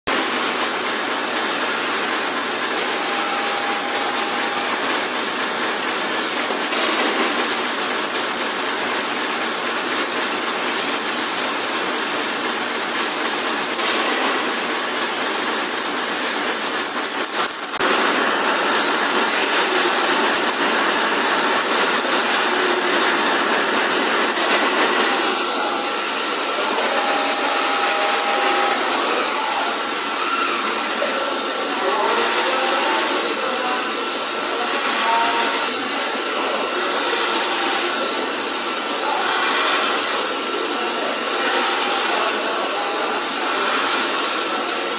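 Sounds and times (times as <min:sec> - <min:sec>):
factory machinery running: 0:00.1 - 0:44.9.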